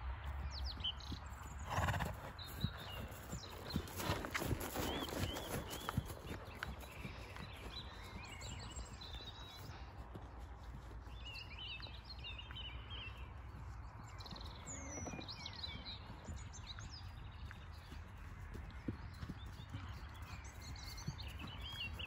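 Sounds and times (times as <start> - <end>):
birds chirping and trilling: 0.6 - 18.0, 18.8 - 22.0.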